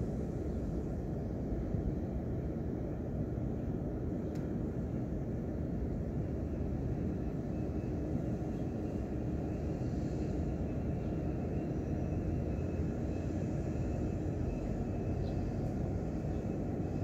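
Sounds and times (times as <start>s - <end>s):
faint steady hum: 0.0s - 17.0s
low rumbling white noise: 0.0s - 17.0s.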